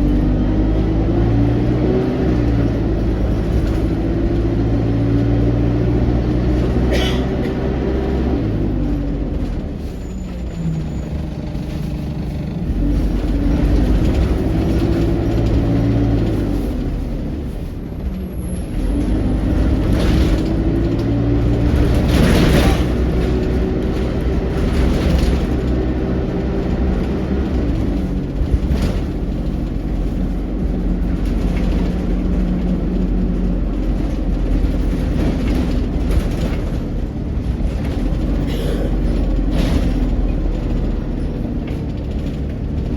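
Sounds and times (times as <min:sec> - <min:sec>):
bus diesel engine: 0:00.0 - 0:42.9
road rumble: 0:00.0 - 0:42.9.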